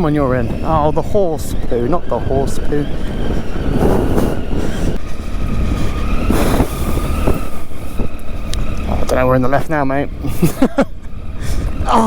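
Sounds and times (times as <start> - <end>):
motorcycle engine running: 0.0 - 12.0
rushes of noise: 0.0 - 12.0.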